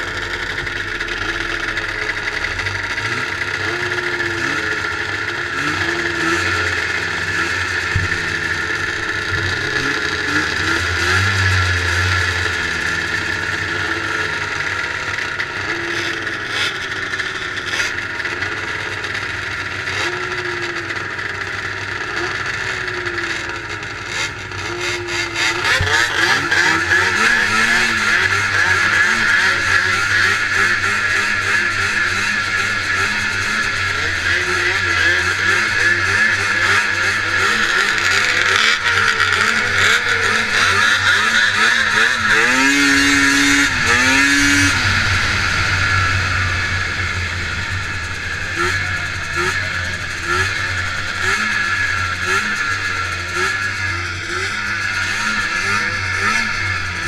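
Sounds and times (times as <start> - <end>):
engine throttle blips: 0.0 - 57.0
snowmobile engines idling: 0.0 - 57.0.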